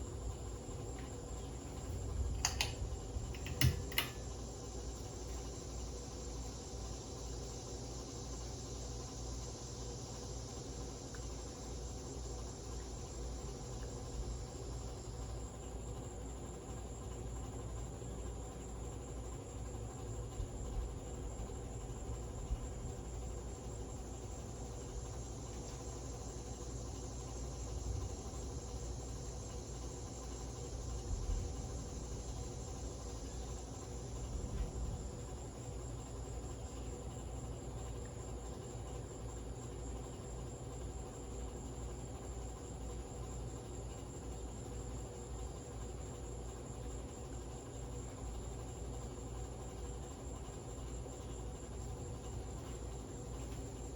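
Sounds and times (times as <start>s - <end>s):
ceiling fan motor hum: 0.0s - 53.9s.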